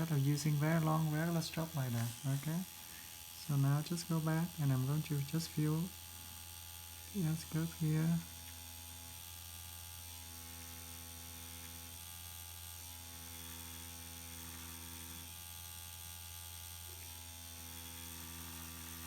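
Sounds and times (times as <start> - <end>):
makeup machine humming: 0.0 - 19.0.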